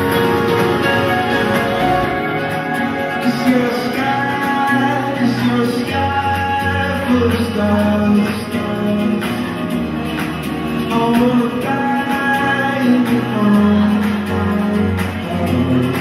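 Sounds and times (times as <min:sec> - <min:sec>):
instrumental backing: 0:00.0 - 0:16.0
person singing: 0:00.0 - 0:16.0.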